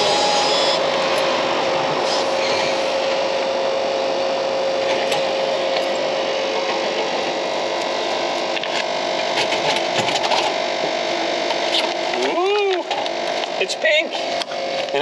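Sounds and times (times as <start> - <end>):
vending machine mechanism humming: 0.0 - 15.0.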